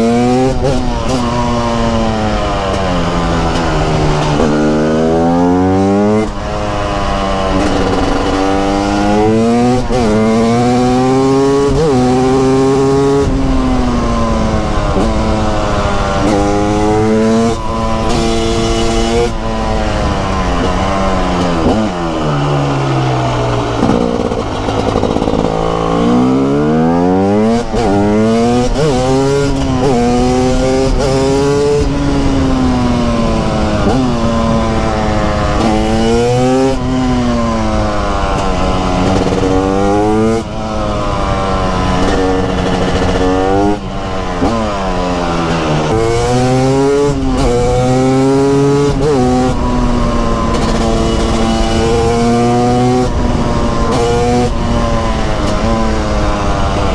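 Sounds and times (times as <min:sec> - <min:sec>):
two-stroke motorcycle engine accelerating: 0:00.0 - 0:56.9.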